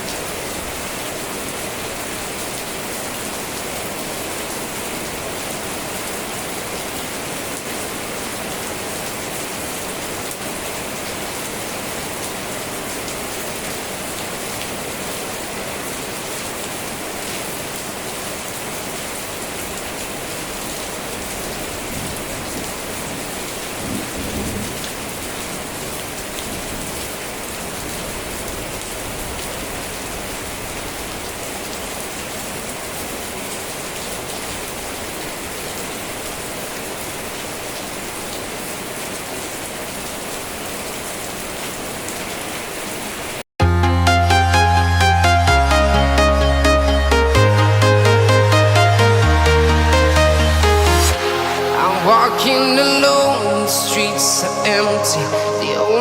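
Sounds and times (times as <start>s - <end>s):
steady rain: 0.0s - 43.5s, 49.7s - 55.8s.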